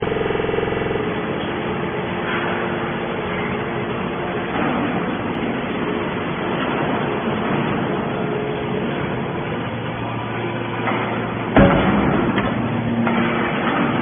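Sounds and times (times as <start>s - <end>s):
hydraulic baler motor and pump: 0.0s - 14.0s.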